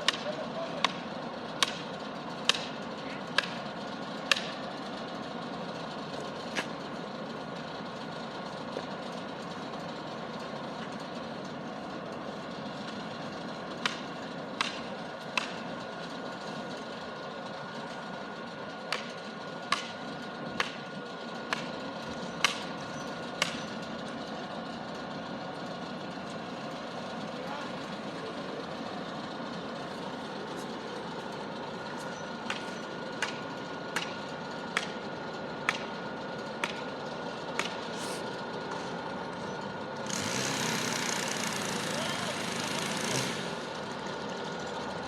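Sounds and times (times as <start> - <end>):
work engine idling: 0.0 - 45.0.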